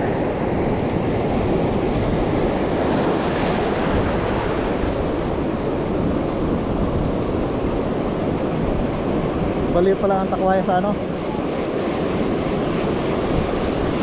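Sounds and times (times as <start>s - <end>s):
sea waves: 0.0s - 14.0s
wind on microphone: 0.0s - 14.0s.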